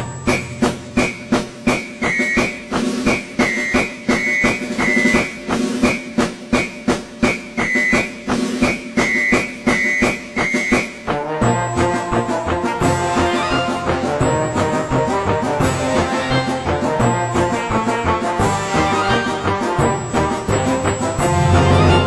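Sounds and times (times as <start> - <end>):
background music with steady beat: 0.0 - 22.0.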